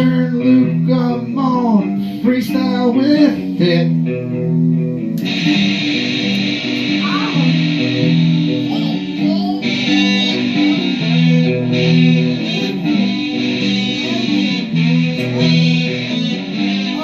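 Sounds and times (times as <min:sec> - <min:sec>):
guitar chords: 0:00.0 - 0:17.0.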